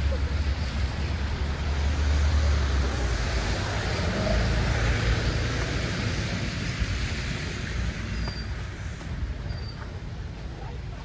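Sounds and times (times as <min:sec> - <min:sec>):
heavy vehicle engine rumble: 0:00.0 - 0:11.0
tyres hissing on road: 0:00.0 - 0:11.0.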